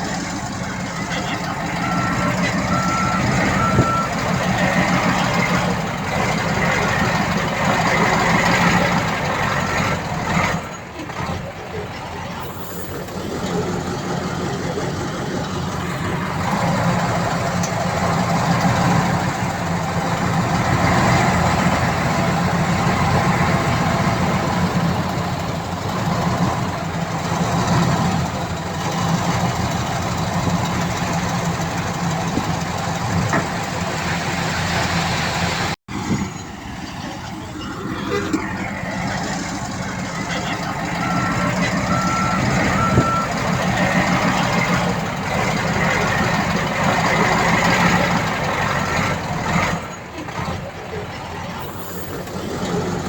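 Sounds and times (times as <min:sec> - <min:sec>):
diesel earthmoving machinery running: 0:00.0 - 0:53.0.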